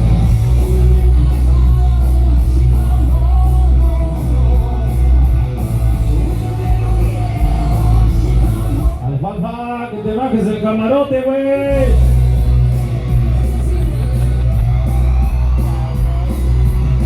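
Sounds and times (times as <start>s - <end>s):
loud rock music with singing: 0.0s - 17.0s.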